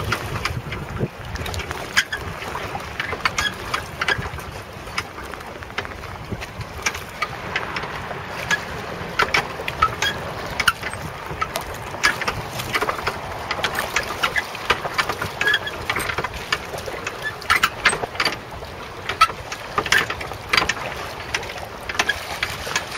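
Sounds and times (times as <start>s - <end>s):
water lapping against jetty: 0.0s - 22.9s.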